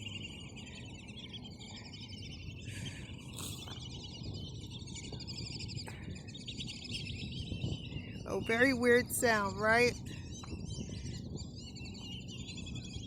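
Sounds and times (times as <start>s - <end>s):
birds chirping and trilling: 0.0s - 13.0s
low outdoor background: 0.0s - 13.0s.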